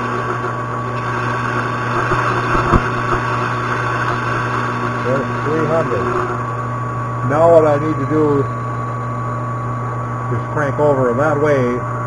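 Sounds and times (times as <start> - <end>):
metal lathe humming and whining: 0.0 - 12.0.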